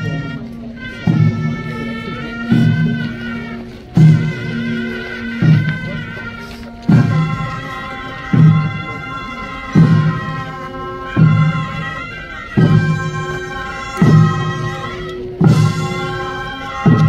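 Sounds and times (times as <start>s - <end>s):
heavy drum beats: 0.0s - 17.0s
held wind instrument tones: 0.0s - 17.0s.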